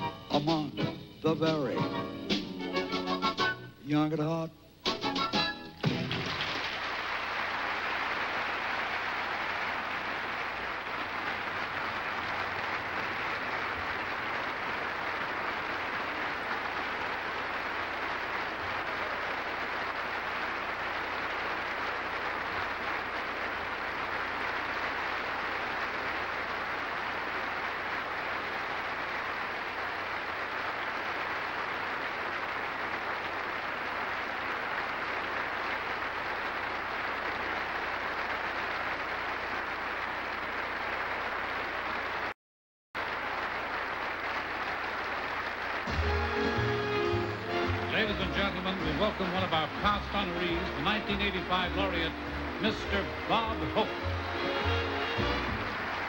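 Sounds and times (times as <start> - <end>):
audience applauding: 5.8 - 42.4, 43.0 - 56.0.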